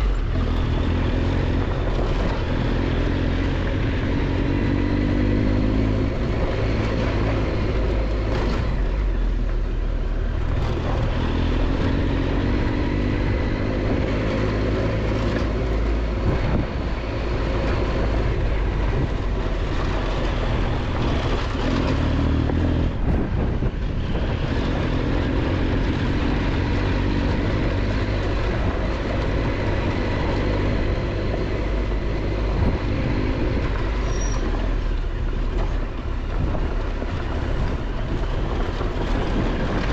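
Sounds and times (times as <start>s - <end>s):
motorcycle engine running: 0.0s - 39.9s
tyre noise on dirt road: 0.0s - 39.9s
wind noise: 0.0s - 39.9s.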